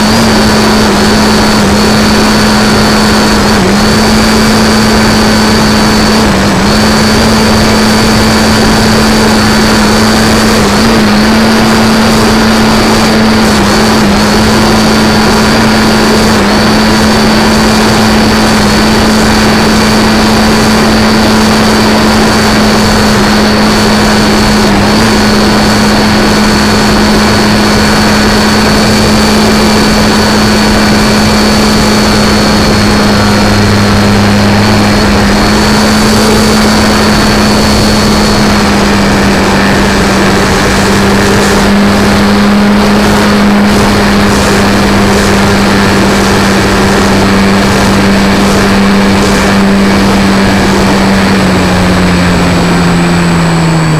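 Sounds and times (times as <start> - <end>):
high propeller whine: 0.0 - 53.9
model airplane motor drone: 0.0 - 53.9.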